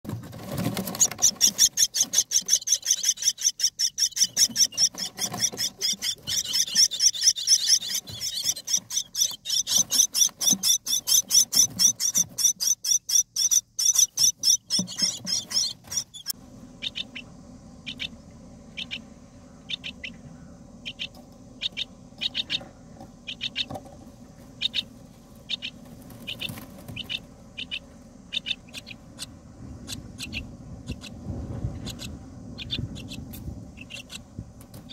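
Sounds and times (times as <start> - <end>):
steady low hum: 0.1 - 34.9
bird chirps: 0.8 - 23.8, 24.6 - 31.2, 31.8 - 34.9
nestlings begging calls: 0.8 - 23.8, 24.5 - 31.2, 31.8 - 34.3.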